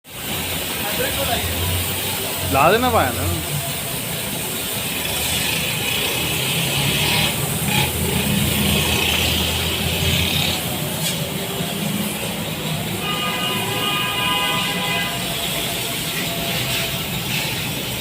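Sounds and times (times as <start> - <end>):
hissing water spray: 0.1 - 18.0.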